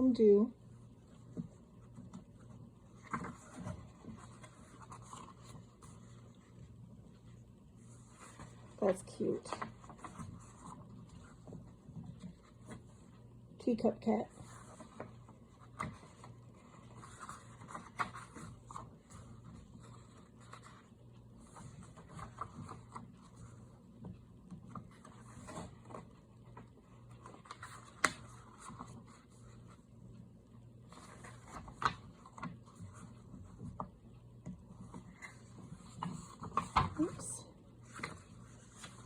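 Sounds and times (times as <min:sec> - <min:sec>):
paper pages rustling: 0:01.0 - 0:13.2, 0:14.3 - 0:30.2, 0:30.8 - 0:39.0.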